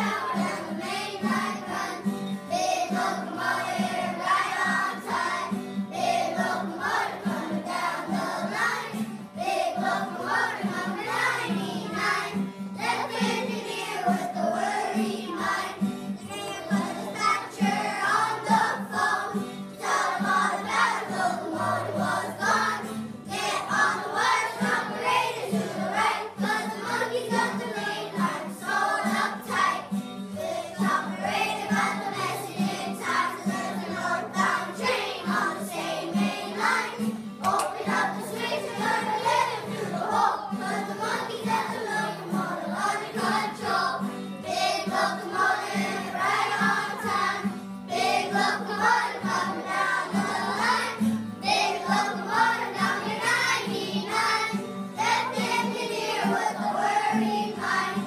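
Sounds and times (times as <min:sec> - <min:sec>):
children singing in unison: 0:00.0 - 0:58.0.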